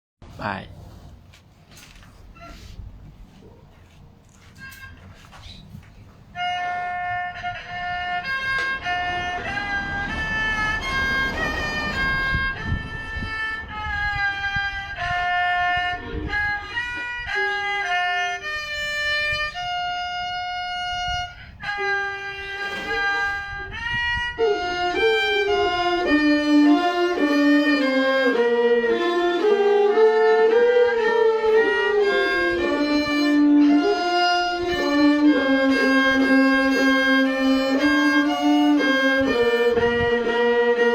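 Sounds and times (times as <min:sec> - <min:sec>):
violin slow melody: 0:06.2 - 0:40.9.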